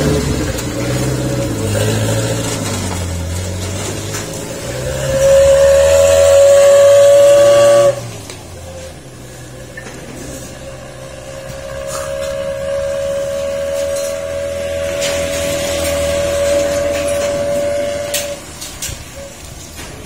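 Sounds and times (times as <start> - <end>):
whistling exhaust howling: 0.0 - 20.0.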